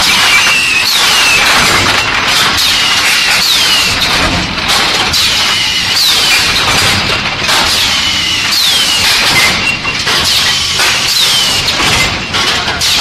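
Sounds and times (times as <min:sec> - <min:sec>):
metallic clatter: 0:00.0 - 0:13.0
steady machine hum: 0:00.0 - 0:13.0.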